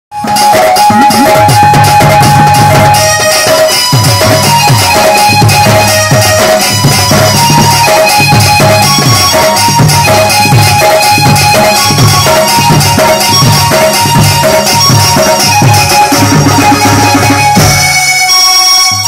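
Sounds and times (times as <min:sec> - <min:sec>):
electronic keyboard melody: 0:00.1 - 0:19.0
drum beat: 0:00.2 - 0:18.2.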